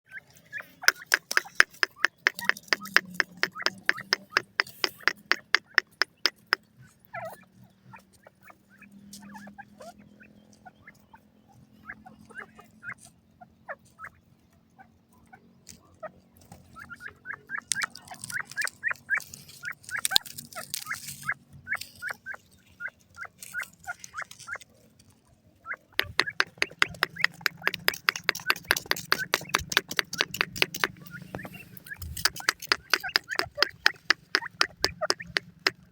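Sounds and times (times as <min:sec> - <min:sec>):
bird chicks peeping: 0:00.2 - 0:14.2, 0:16.4 - 0:24.6, 0:25.6 - 0:35.9.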